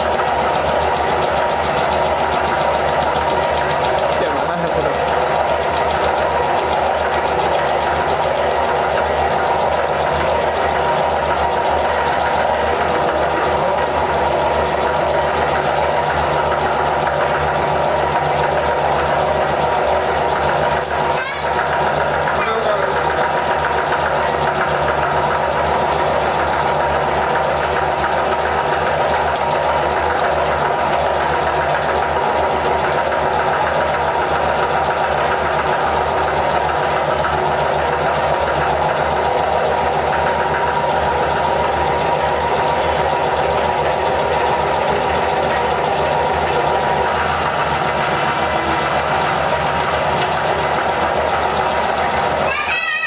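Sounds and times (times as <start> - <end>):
meat grinder grinding biscuits: 0.0 - 53.0.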